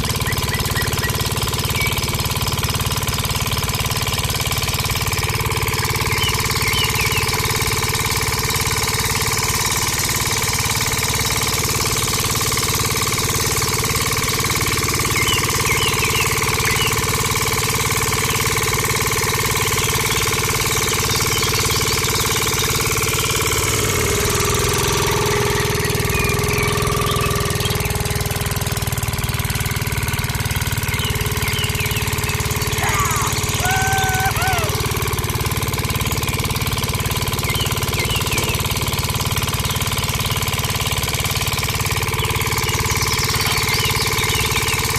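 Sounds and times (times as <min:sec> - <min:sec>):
engine running with knocking: 0:00.0 - 0:44.9.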